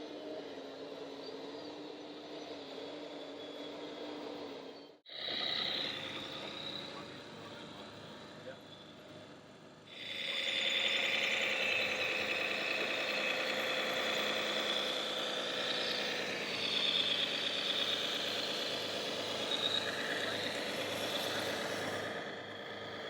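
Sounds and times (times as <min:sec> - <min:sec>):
model truck engine drone: 0:00.0 - 0:23.0.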